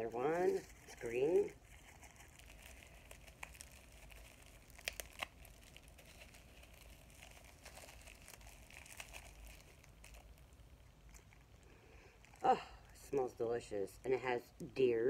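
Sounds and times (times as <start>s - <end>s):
packaging wrap crinkling: 0.0s - 13.2s
sharp crackles: 0.4s - 12.5s.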